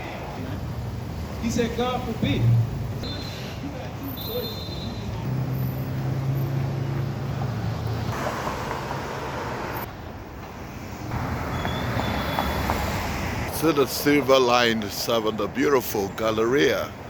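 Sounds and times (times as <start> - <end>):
traffic passing: 0.0 - 17.0.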